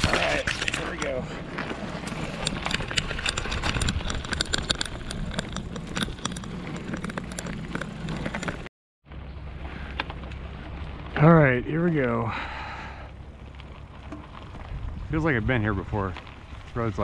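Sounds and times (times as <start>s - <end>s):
bicycle rattling: 0.0s - 17.0s
tyres crunching on gravel: 0.0s - 17.0s.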